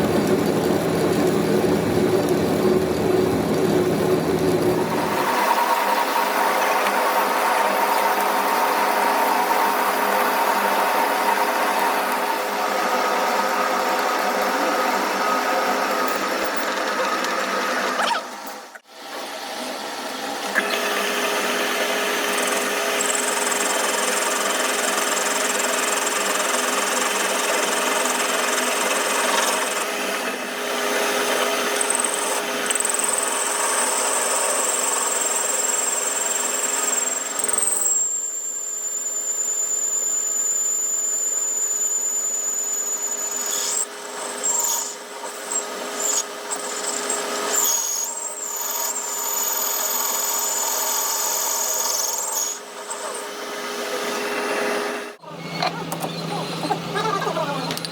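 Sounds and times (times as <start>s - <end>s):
power tool working metal: 0.0s - 57.9s.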